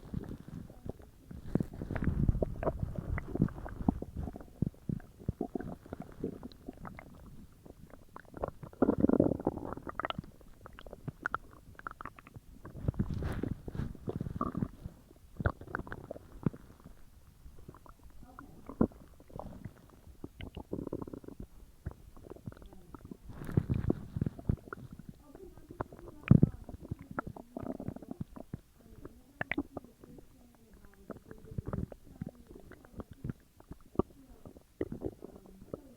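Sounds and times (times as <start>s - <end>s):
stomach gurgling and rumbling: 0.0s - 35.9s.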